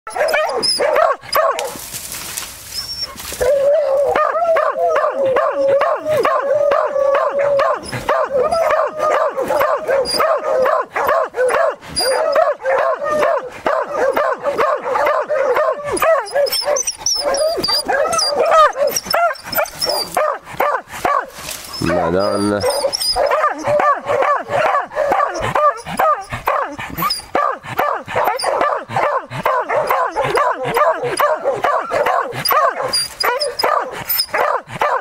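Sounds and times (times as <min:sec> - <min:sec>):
hounds baying: 0:00.1 - 0:35.0.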